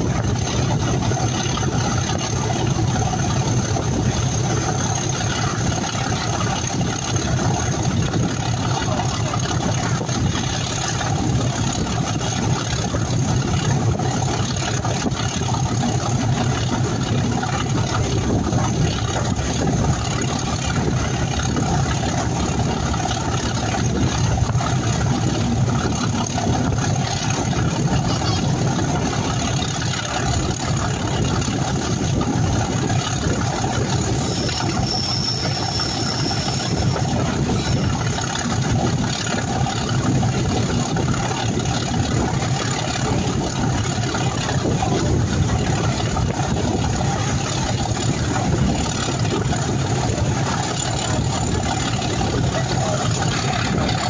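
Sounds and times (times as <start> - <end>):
diesel locomotive engine working hard: 0.0 - 54.0.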